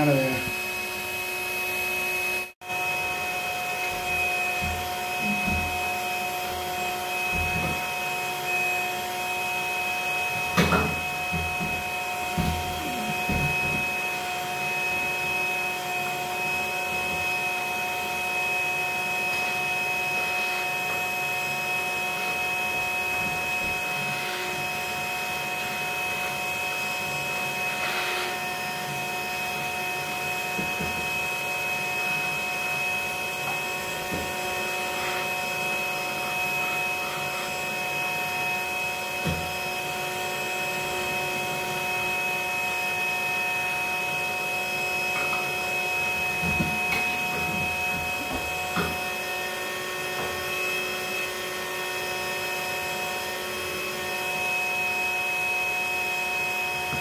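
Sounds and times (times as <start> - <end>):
vacuum whining steadily: 0.0 - 57.0.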